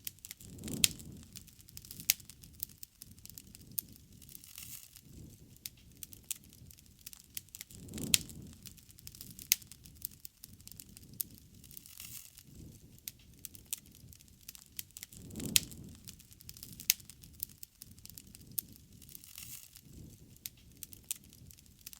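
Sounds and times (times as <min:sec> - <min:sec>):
campfire crackling and popping: 0:00.0 - 0:21.9.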